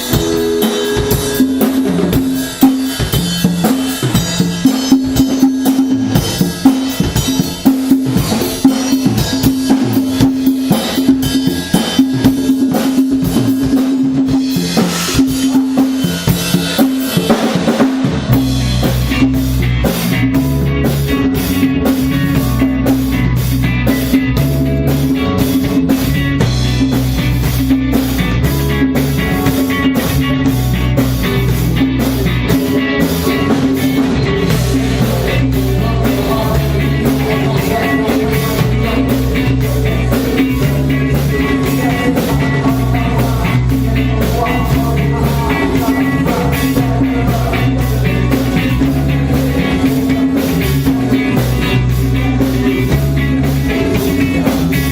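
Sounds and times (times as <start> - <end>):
deep bass notes: 0.0 - 54.9
drum kit beat: 0.0 - 54.9
repeating pitched riff: 0.0 - 54.9.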